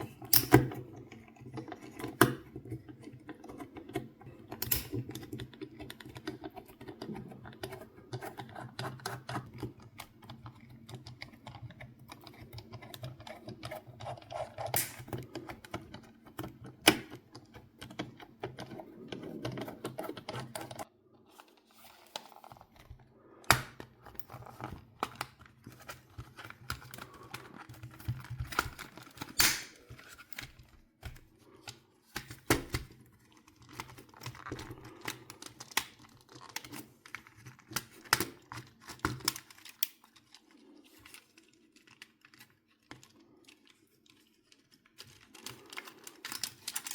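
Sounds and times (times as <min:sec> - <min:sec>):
small clicks and rattles on plastic: 0:00.1 - 0:46.9.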